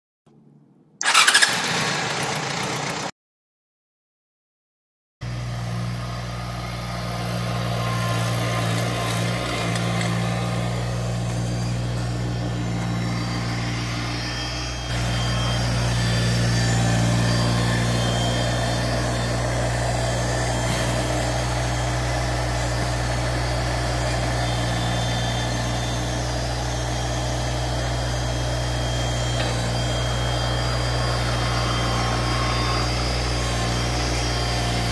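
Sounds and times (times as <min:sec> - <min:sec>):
tractor diesel engine running: 0:00.3 - 0:03.1, 0:05.2 - 0:34.9.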